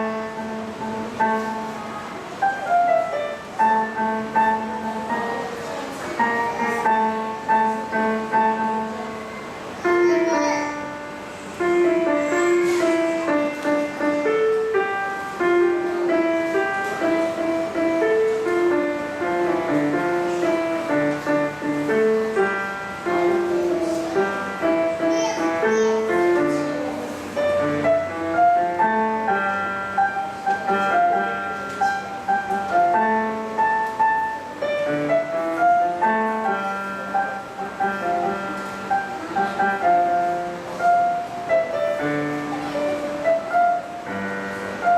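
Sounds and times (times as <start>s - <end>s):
piano playing: 0.0s - 44.9s.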